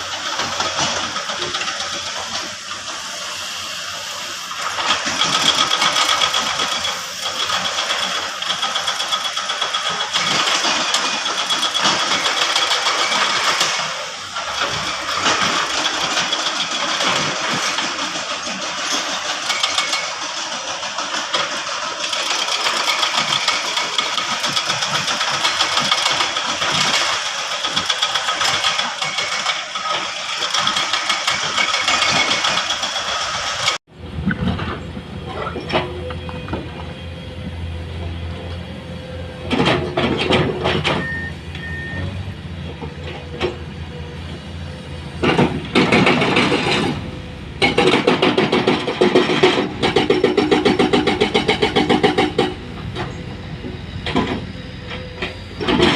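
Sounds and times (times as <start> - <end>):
high-pitched engine noise: 0.0 - 55.9.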